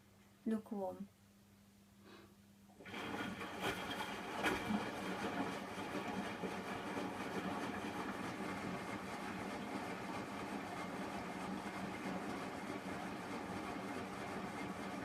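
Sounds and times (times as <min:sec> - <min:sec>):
washing machine motor hum: 0:02.8 - 0:15.0.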